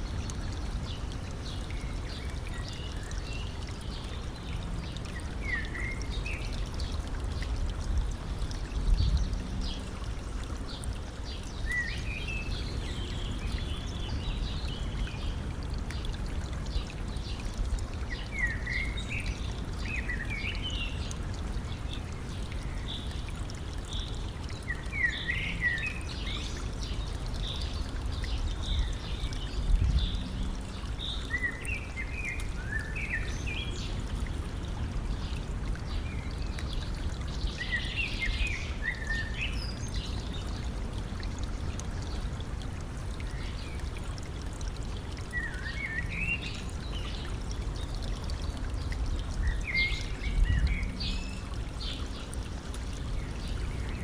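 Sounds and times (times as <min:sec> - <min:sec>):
songbirds chirping: 0:00.0 - 0:54.0
stream trickling: 0:00.0 - 0:54.0.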